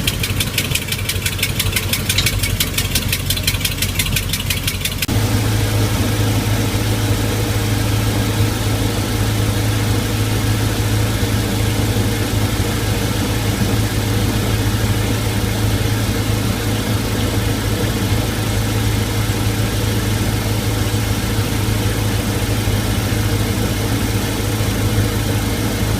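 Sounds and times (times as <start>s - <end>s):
boat engine idling: 0.0s - 25.9s
exhaust leak ticking: 0.0s - 25.9s.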